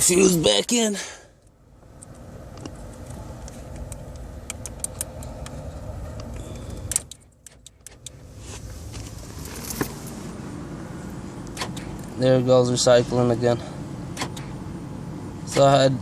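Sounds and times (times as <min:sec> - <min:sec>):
steady low rumble: 0:01.3 - 0:16.0.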